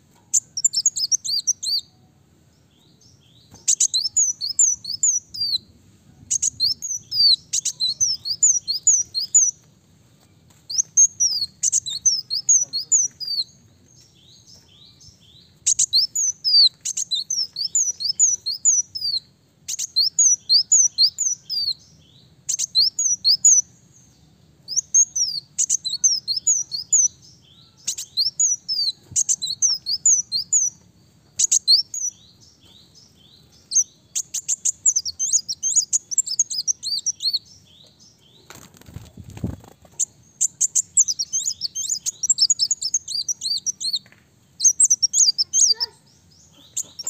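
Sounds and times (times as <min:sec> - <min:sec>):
sunbird singing high thin chirps: 0:00.2 - 0:09.6, 0:10.7 - 0:38.5, 0:39.4 - 0:47.0.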